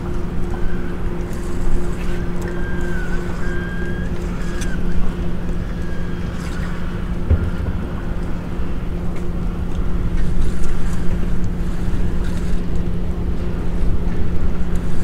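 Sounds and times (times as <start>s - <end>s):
steady low hum: 0.0s - 15.0s
wind rumbling on microphone: 0.0s - 15.0s.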